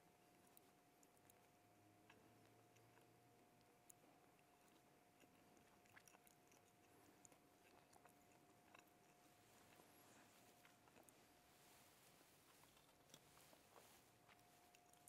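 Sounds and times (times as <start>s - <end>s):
faint steady hum: 0.0s - 15.0s
chewing: 0.2s - 15.0s.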